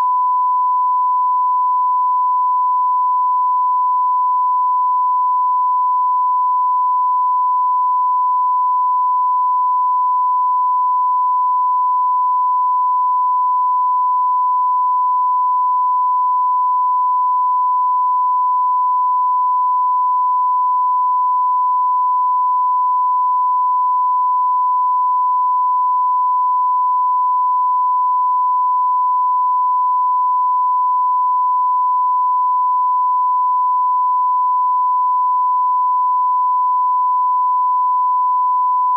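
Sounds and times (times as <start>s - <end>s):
steady pure test tone beep: 0.0s - 38.9s.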